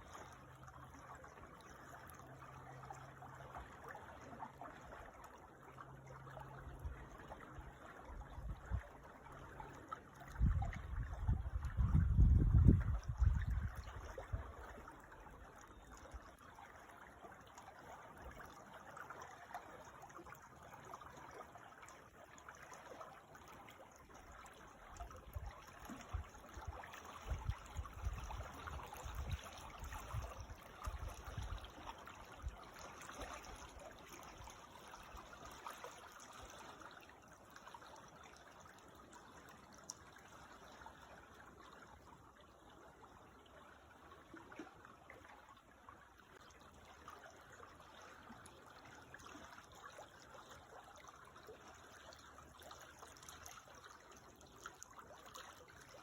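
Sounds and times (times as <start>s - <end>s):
creek water trickling: 0.0s - 56.0s.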